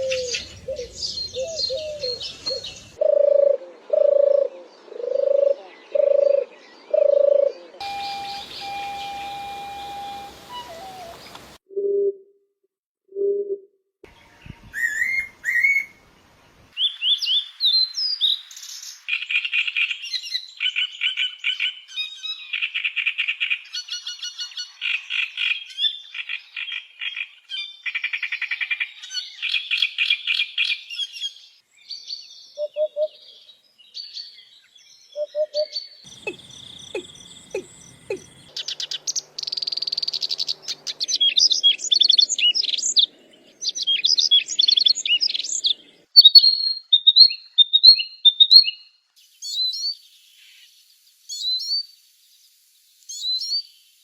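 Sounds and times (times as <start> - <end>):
songbirds calling: 0.0 - 11.6, 14.1 - 53.8.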